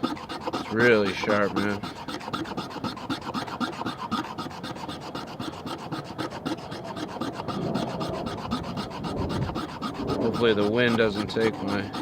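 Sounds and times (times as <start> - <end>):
knife blade shaving a stick: 0.0 - 12.0.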